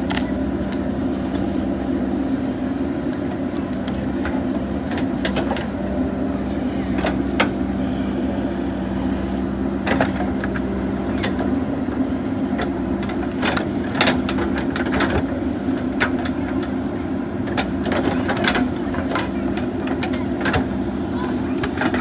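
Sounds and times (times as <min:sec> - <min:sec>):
backhoe diesel engine running: 0:00.0 - 0:22.0.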